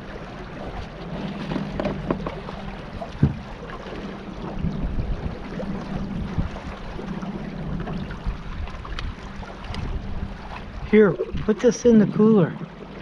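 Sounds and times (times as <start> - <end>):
water sloshing around a kayak: 0.0 - 13.0.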